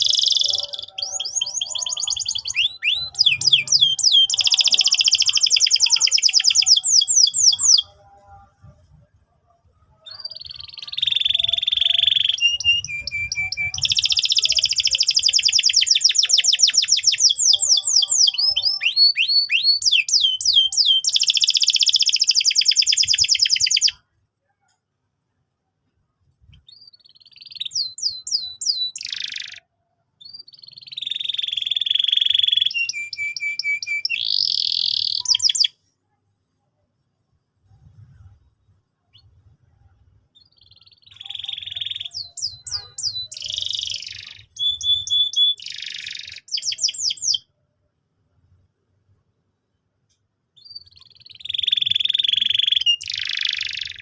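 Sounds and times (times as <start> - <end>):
canary singing trills: 0.0 - 9.0, 9.7 - 24.0, 26.5 - 35.8, 40.3 - 47.5, 50.6 - 54.0.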